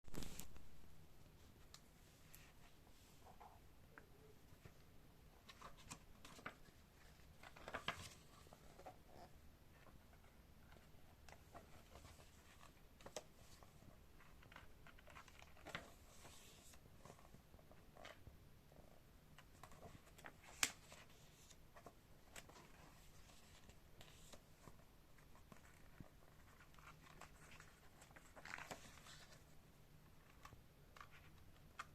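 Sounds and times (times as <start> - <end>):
book pages rustling: 0.1 - 0.7, 5.4 - 18.2, 19.4 - 31.9
light clicks of book handling: 0.1 - 0.7, 5.4 - 18.2, 19.3 - 31.9.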